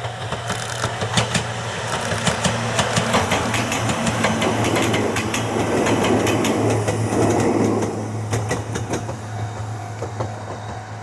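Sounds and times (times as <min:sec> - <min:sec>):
electric train hum: 0:00.0 - 0:11.0
train wheel clicks over rail joints: 0:00.0 - 0:11.0.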